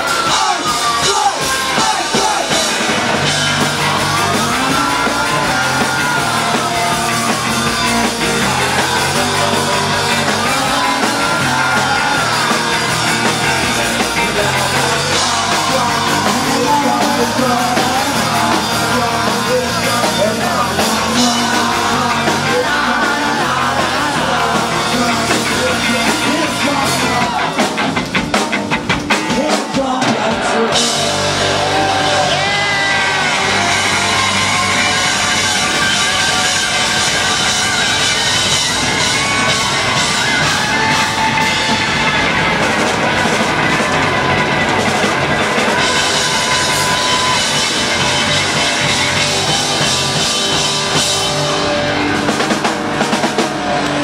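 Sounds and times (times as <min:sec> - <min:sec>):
punk band playing loud: 0:00.0 - 0:54.0.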